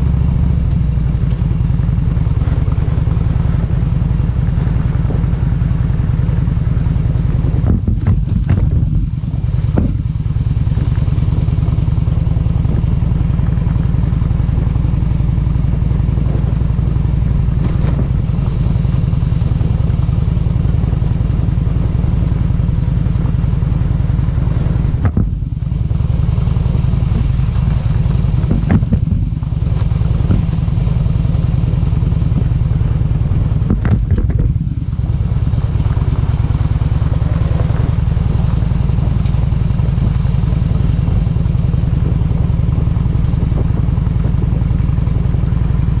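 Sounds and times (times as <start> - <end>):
vehicle engine running: 0.0 - 46.0
wind or road noise: 0.0 - 46.0.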